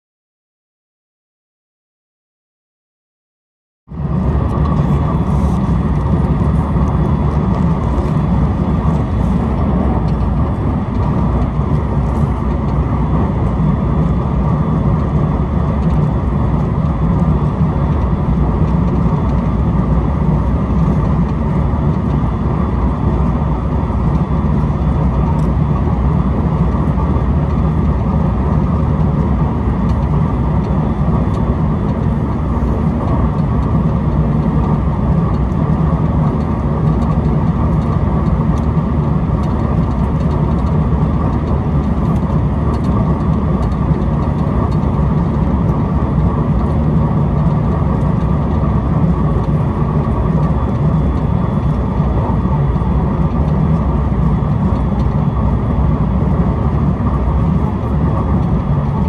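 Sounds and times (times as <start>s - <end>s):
faint steady whine: 4.0s - 59.0s.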